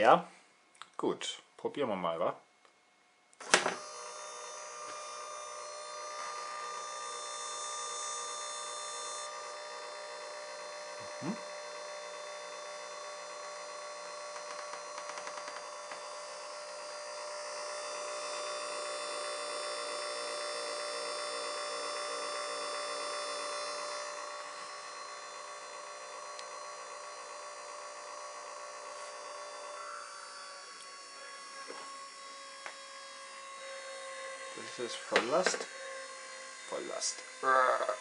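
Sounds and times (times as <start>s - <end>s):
small electric motor whine: 3.4s - 38.0s.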